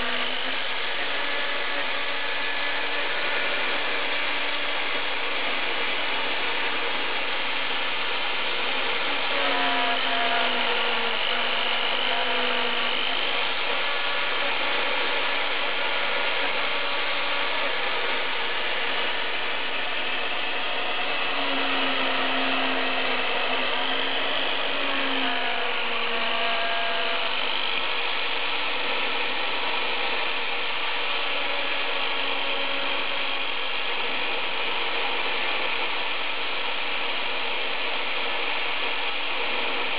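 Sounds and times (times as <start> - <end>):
axis motors singing tones: 0.0 - 39.9
spindle motor whining: 0.0 - 39.9.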